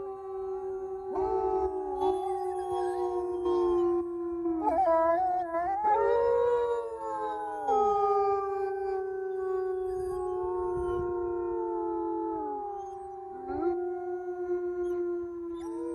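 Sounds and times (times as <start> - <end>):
wolves howling in chorus: 0.0 - 15.9.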